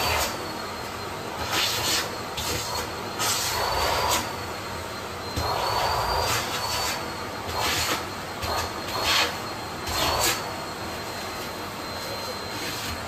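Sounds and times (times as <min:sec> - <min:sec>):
vacuum cleaner running: 0:00.0 - 0:13.0
vacuum high whine: 0:00.0 - 0:13.0.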